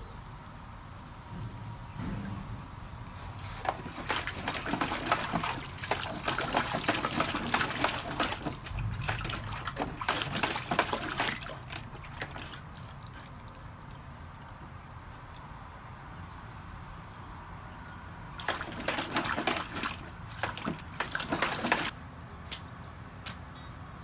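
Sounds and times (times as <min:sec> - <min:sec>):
water splashing in a plastic pool: 0:00.0 - 0:15.8, 0:18.3 - 0:22.0.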